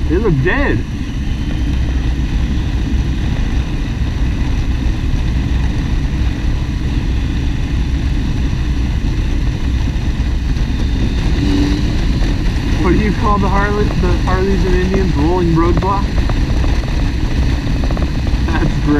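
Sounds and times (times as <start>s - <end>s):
motorcycle engine drone: 0.0s - 18.9s
wind noise: 0.0s - 18.9s.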